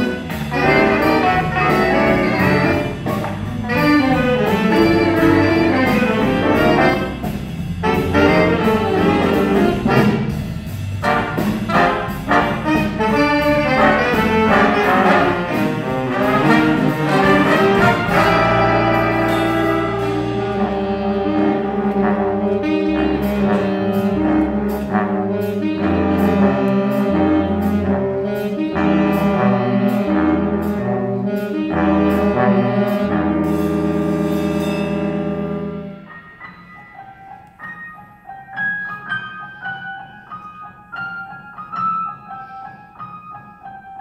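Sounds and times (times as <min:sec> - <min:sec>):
jazz big band playing: 0:00.0 - 0:44.0.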